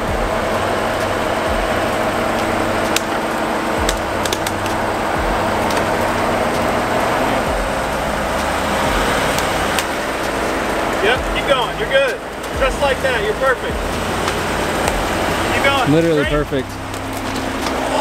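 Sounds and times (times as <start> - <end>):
vehicle engine running at low speed: 0.0 - 18.0.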